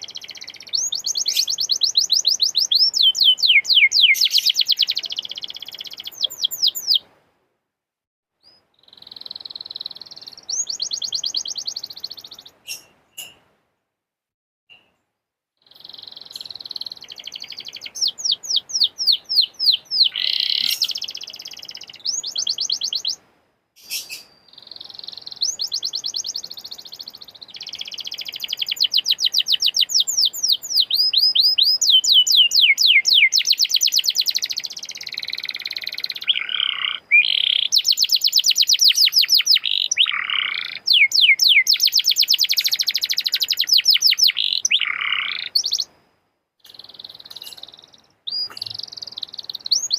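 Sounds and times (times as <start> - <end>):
canary singing trills: 0.0 - 7.0, 8.4 - 13.4, 15.6 - 23.2, 23.8 - 45.9, 46.6 - 49.9.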